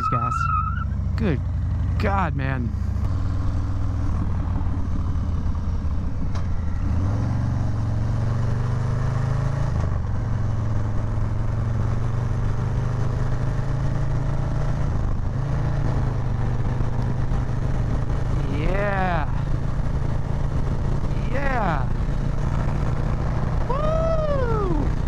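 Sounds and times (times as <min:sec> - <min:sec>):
motorcycle engine running: 0:00.9 - 0:08.4, 0:09.0 - 0:25.0.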